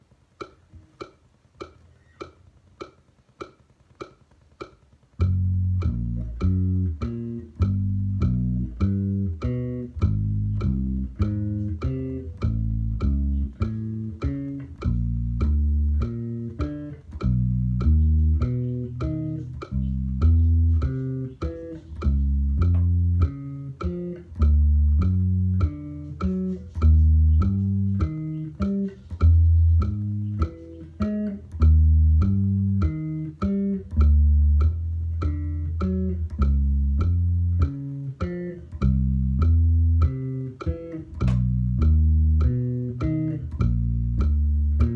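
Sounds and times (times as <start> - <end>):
metronome clicking: 0.0 - 44.9
bass guitar low notes: 5.1 - 44.9.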